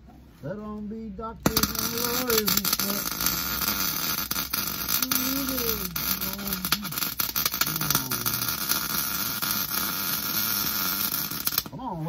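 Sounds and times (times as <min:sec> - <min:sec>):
welding arc crackling: 0:01.4 - 0:11.8.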